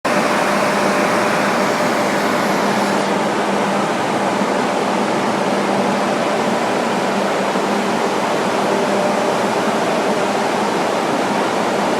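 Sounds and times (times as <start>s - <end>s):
rush of air from fans: 0.1s - 11.9s.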